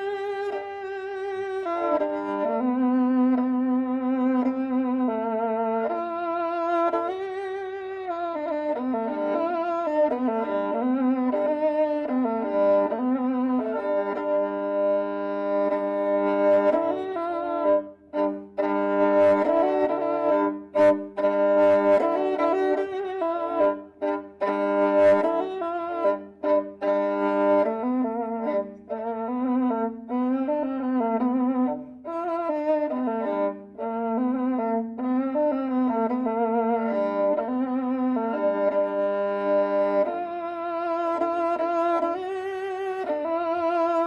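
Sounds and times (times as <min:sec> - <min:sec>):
bowed fiddle playing: 0:00.0 - 0:44.0.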